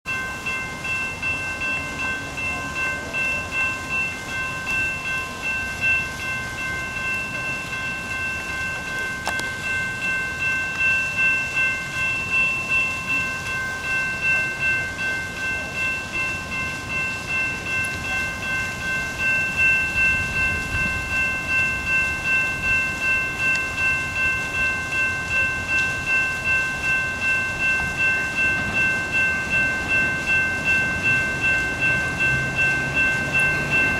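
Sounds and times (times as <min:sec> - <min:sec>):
railroad crossing bell ringing: 0:00.0 - 0:33.9.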